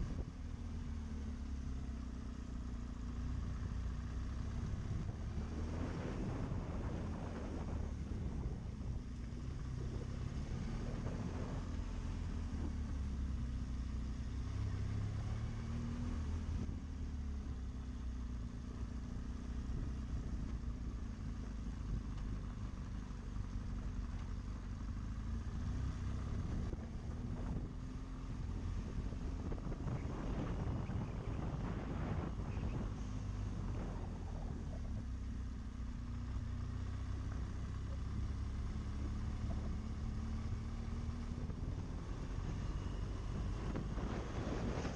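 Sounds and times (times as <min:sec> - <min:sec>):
motorcycle engine running: 0:00.0 - 0:44.9
wind and road noise: 0:00.0 - 0:44.9.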